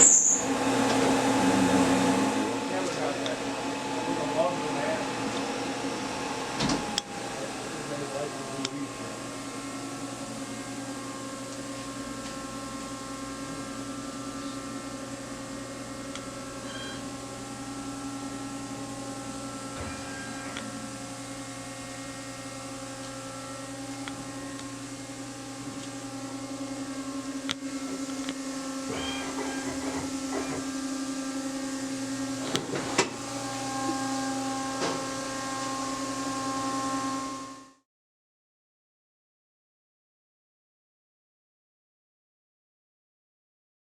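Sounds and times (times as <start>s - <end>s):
lathe humming with steady tones: 0.3s - 37.8s.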